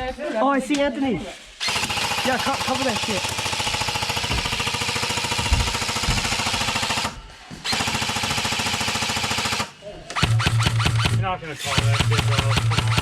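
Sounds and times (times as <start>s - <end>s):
airsoft gun firing bursts: 1.6s - 13.0s.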